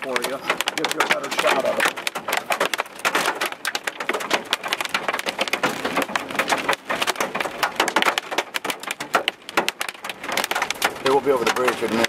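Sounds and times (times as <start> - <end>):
rain on vehicle roof: 0.0 - 12.0.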